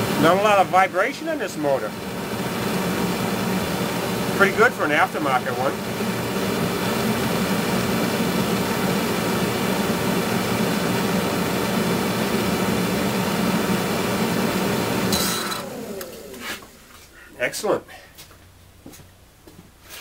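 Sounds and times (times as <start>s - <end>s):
rush of air from fan: 0.0s - 17.4s
heater blower motor humming: 0.0s - 17.8s.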